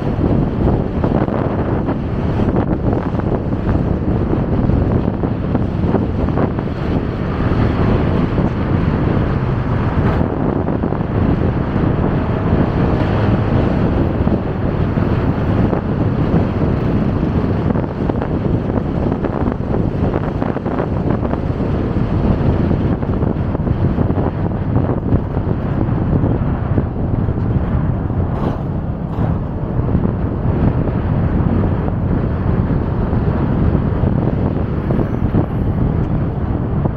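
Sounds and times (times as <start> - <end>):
road traffic: 0.0 - 36.9
wind rush on microphone: 0.0 - 36.9.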